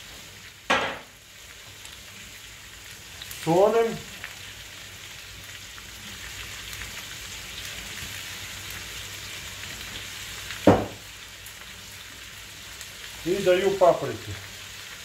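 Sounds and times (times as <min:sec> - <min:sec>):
meat and onion sizzling in pan: 0:00.0 - 0:15.0.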